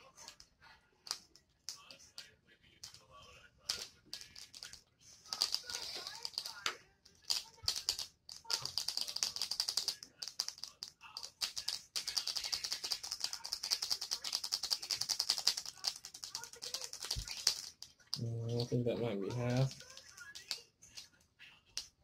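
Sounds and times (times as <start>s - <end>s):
small clicks and rattles: 3.7s - 22.0s.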